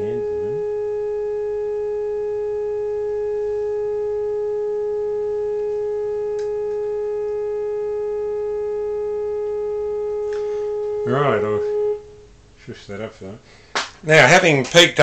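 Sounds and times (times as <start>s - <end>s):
steady test tone from loudspeaker: 0.0s - 12.6s.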